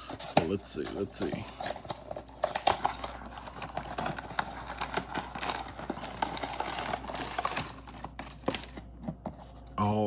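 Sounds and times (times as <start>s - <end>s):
packaging being torn open: 0.0s - 8.7s.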